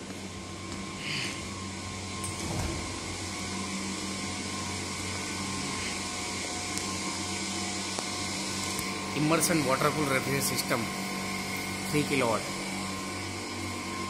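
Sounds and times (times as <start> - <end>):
refrigeration compressors humming: 0.0 - 14.0.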